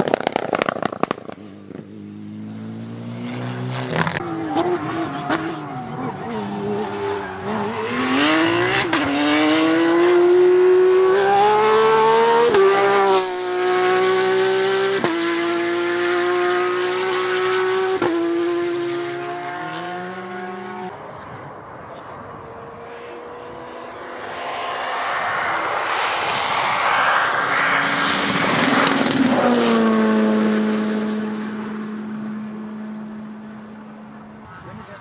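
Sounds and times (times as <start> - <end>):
rally car engine accelerating: 0.0 - 34.5.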